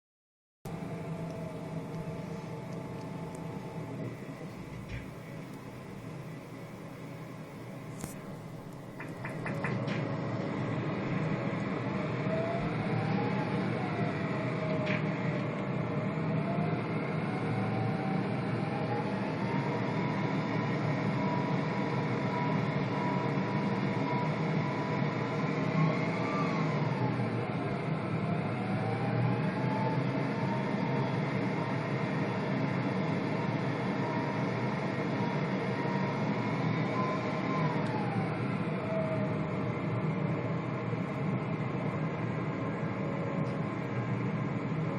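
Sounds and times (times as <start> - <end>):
airliner cabin engine rumble: 0.7 - 44.9
jet engine whine: 0.7 - 44.9.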